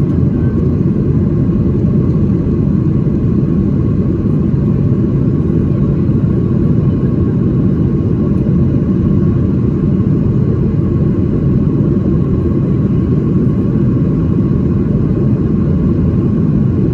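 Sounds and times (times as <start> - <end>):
aircraft cabin rumble: 0.0 - 16.9.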